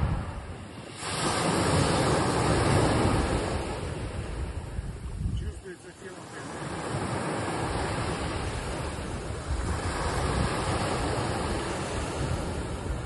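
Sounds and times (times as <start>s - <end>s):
ocean waves breaking on sand: 0.0s - 13.0s.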